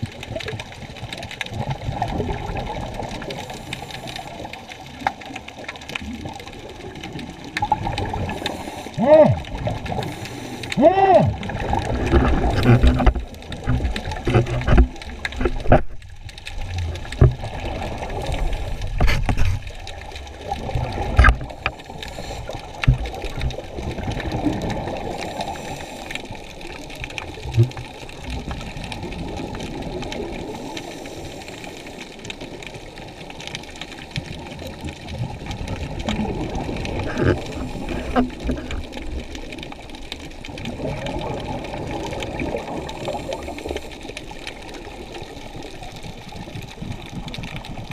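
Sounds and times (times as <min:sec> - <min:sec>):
muffled underwater noise: 0:00.0 - 0:47.9
scuba regulator bubbles: 0:00.0 - 0:47.9.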